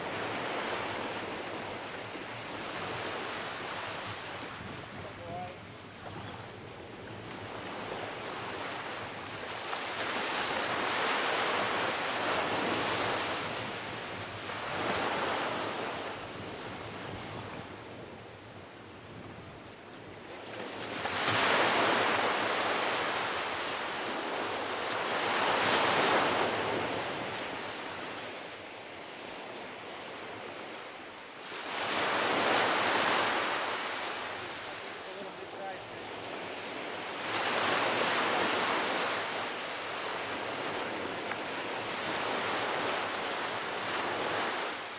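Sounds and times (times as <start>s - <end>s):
ocean waves breaking on beach: 0.0s - 44.9s.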